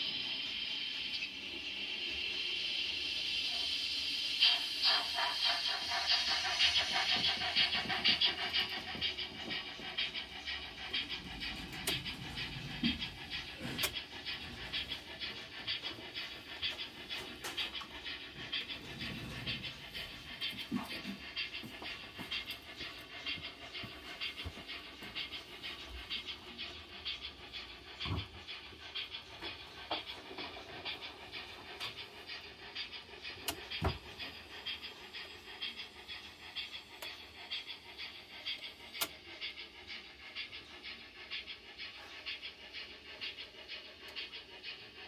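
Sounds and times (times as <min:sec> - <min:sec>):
rhythmic mechanical whirring: 0:00.0 - 0:45.0
steam chuffs through small speaker: 0:00.0 - 0:45.0.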